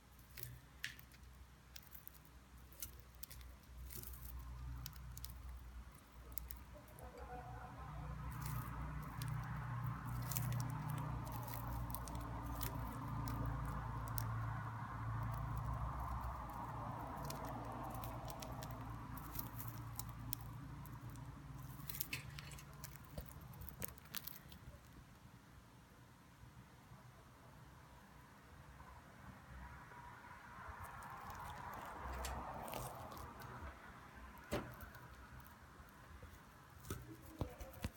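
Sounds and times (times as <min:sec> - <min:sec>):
bird pecking at food: 0:00.0 - 0:07.4, 0:08.1 - 0:25.0, 0:30.8 - 0:33.7, 0:34.4 - 0:37.9.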